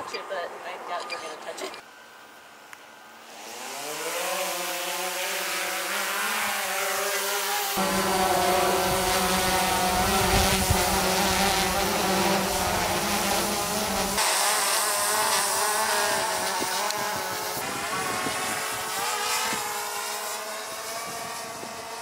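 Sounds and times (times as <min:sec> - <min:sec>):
drone propellers buzzing: 0:02.9 - 0:22.0.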